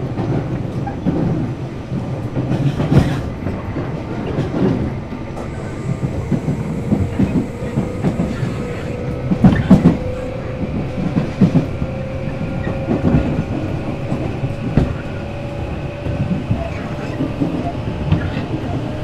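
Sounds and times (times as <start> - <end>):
train wheels clacking over rail joints: 0.1 - 19.0.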